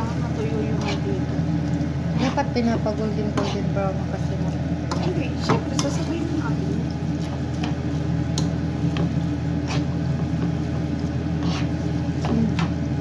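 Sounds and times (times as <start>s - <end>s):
noodles frying in oil: 0.0s - 13.0s
spatula stirring and scraping: 0.0s - 13.0s
steady low hum: 0.0s - 13.0s.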